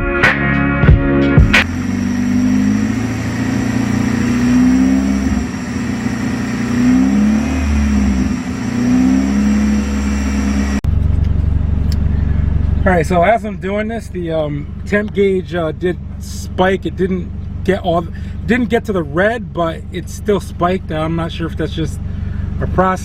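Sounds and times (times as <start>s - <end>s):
car engine warming up: 1.4s - 23.0s.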